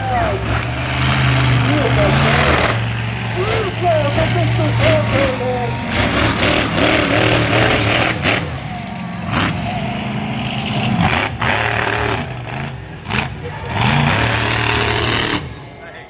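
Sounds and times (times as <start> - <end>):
heavy engine idling: 0.0 - 16.0
noisy surroundings: 0.0 - 16.0.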